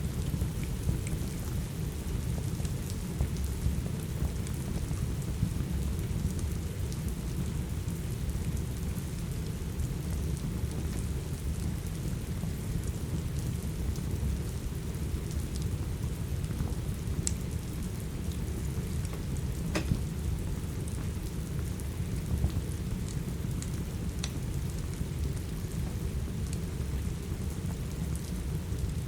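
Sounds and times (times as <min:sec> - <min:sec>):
steady rain: 0:00.0 - 0:29.0
log fire crackling: 0:00.1 - 0:29.0.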